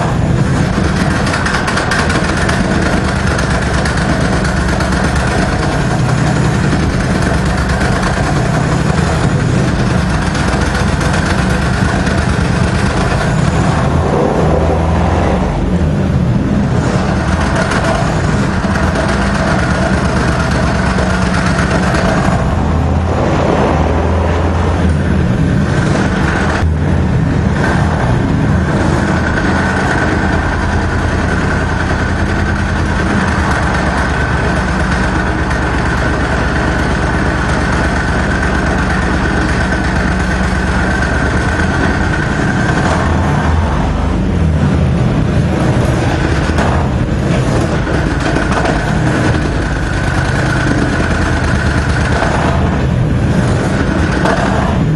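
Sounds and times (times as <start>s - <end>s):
small engine running: 0.0s - 54.9s
steady high whine: 0.0s - 54.9s.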